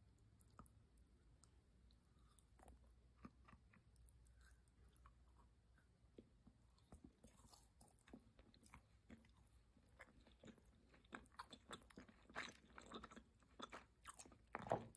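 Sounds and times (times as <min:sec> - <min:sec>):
chewing crunchy sweet: 0:00.2 - 0:14.9.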